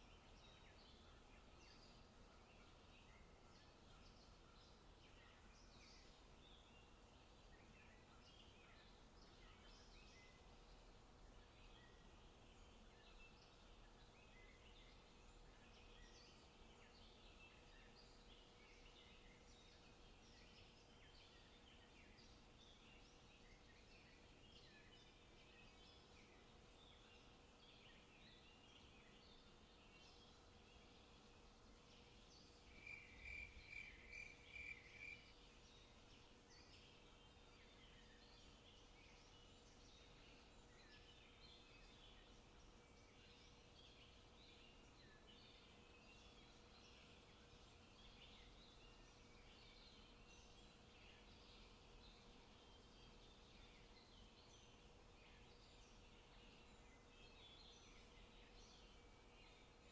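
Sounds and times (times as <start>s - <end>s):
faint steady hum: 0.0s - 59.9s
small birds chirping: 0.0s - 59.9s.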